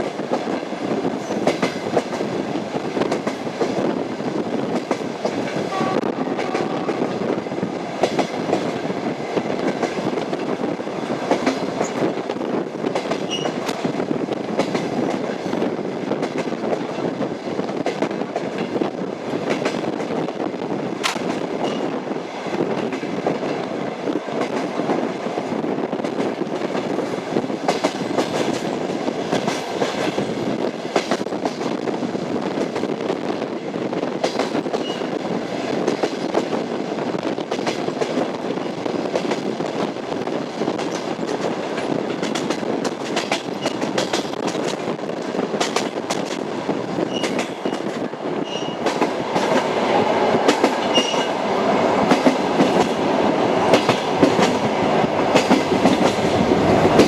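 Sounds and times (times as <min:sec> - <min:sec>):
train rumble: 0:00.0 - 0:57.0
train wheels clacking on rails: 0:00.0 - 0:57.0.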